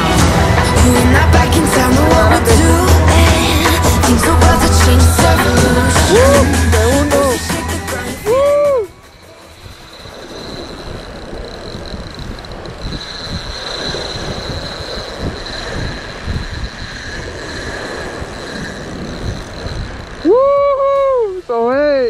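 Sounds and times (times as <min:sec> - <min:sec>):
thin high whine: 0:00.0 - 0:22.0
wind gusting on microphone: 0:00.0 - 0:22.0.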